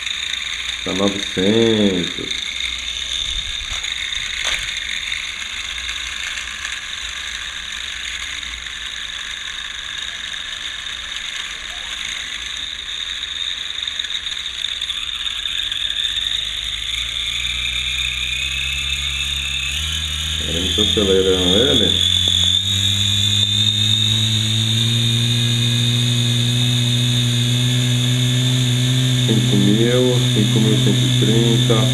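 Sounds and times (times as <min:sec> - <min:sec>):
toy drone motors whining: 0:00.0 - 0:31.9.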